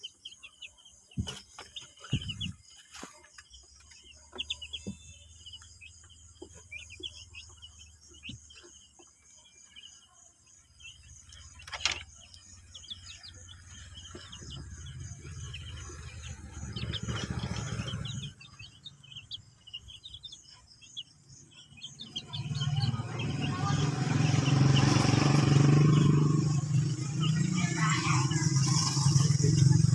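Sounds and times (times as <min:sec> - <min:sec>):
chicks peeping: 0:00.0 - 0:29.9
crickets trilling: 0:00.0 - 0:29.9.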